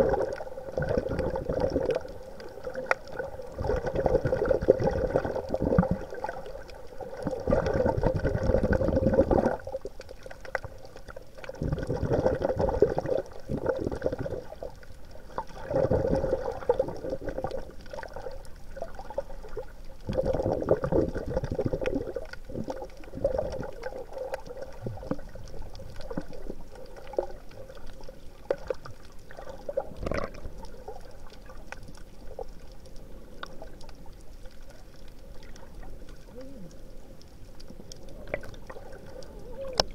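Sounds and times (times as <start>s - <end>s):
water bubbling and sloshing: 0.0s - 39.9s.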